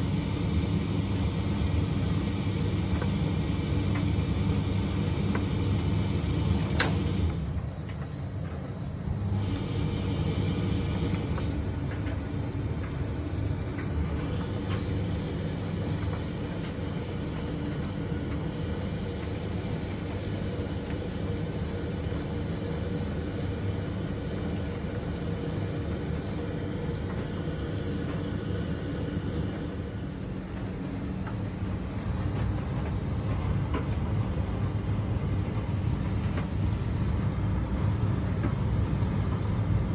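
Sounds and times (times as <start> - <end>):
clothes dryer running: 0.0 - 39.9.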